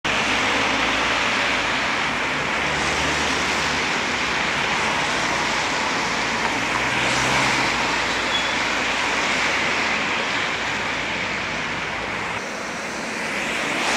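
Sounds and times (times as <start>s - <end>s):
engine hum of vehicles: 0.0s - 13.9s
tyres hissing on wet road: 0.1s - 13.9s.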